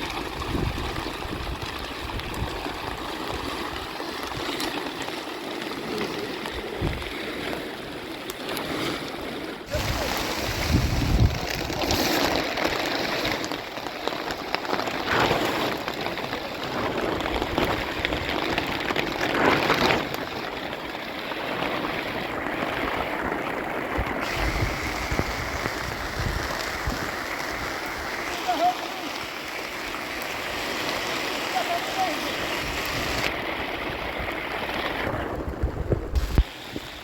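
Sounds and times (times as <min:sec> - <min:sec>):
heavy rain falling: 0:00.0 - 0:07.1, 0:09.7 - 0:37.0.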